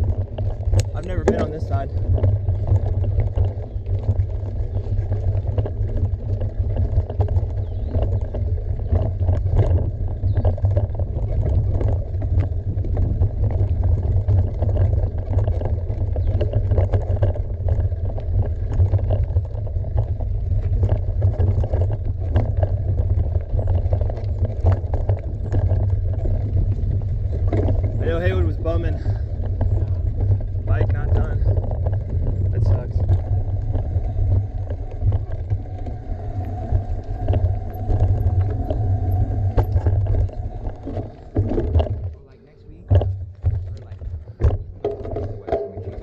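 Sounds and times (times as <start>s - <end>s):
bike tyres knocking and rattling: 0.0s - 46.0s
wind buffeting microphone: 0.0s - 46.0s.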